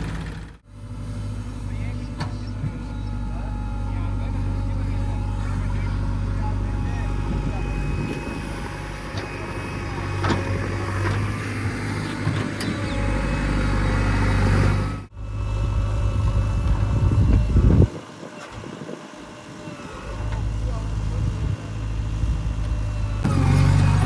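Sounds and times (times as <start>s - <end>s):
diesel engines running: 0.0s - 24.0s.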